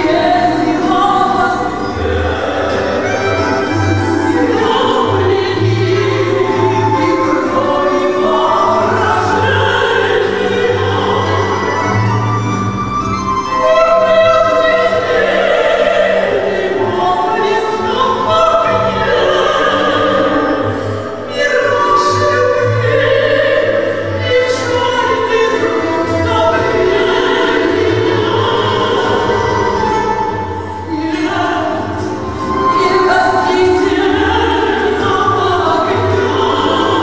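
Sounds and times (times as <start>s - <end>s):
women singing a duet: 0.0s - 12.5s, 13.4s - 37.0s
folk instrument ensemble: 0.0s - 37.0s.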